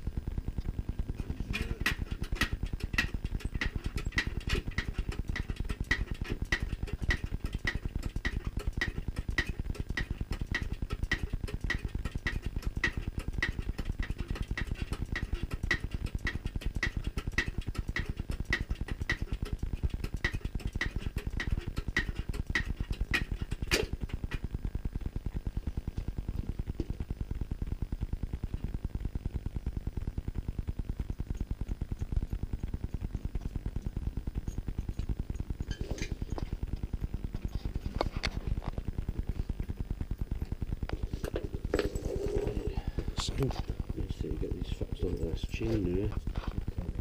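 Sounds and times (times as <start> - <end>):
machine running with low pulsing: 0.0 - 47.0.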